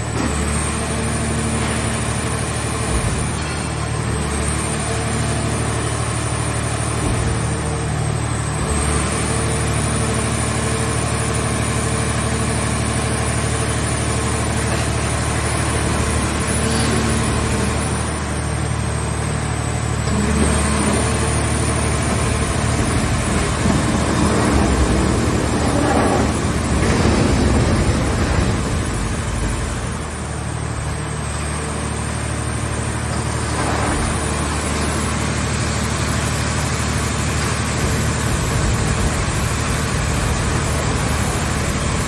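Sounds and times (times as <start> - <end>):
baling machine engine running: 0.0 - 42.0.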